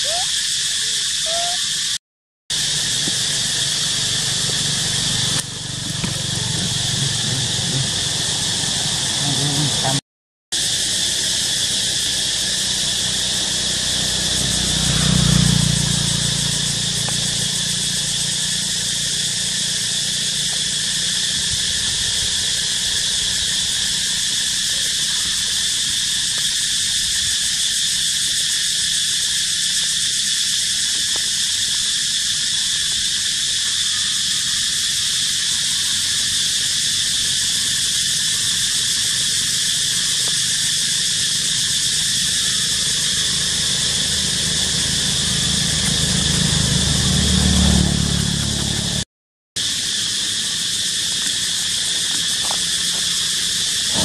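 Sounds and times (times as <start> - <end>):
insect chorus drone: 0.0 - 10.0, 10.6 - 49.0, 49.6 - 54.0.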